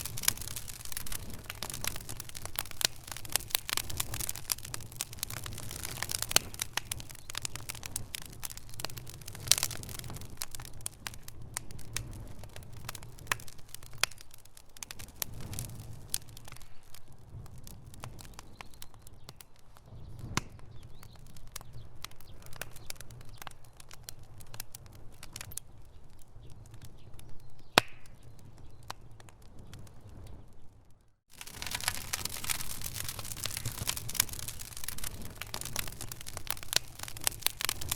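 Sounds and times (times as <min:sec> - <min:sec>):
fire crackling and popping: 0:00.0 - 0:37.9.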